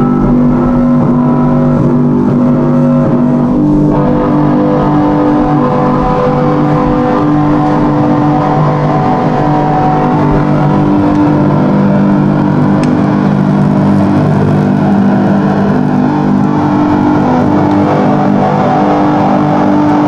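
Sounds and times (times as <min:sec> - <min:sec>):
drone of low tones: 0:00.0 - 0:20.0
rushing noise: 0:00.0 - 0:20.0.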